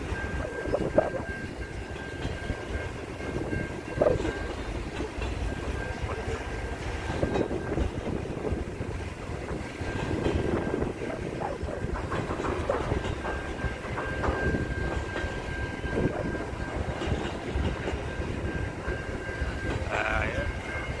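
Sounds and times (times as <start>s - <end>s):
train wheels clattering over joints: 0.0s - 21.0s.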